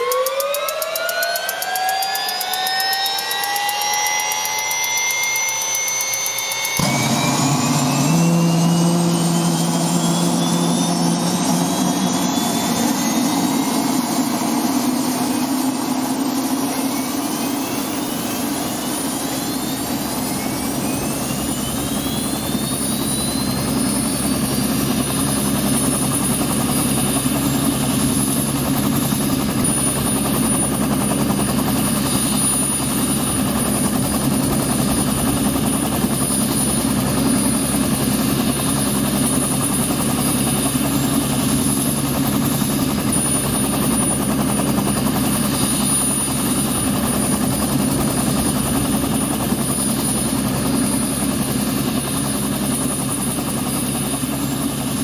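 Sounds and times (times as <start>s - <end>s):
deep steady engine running: 0.0s - 55.0s
turbine engine whine rising: 0.0s - 55.0s.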